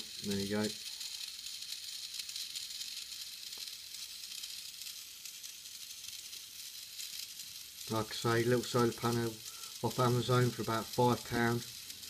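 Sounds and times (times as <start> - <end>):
small motor and gears whirring: 0.0 - 12.0.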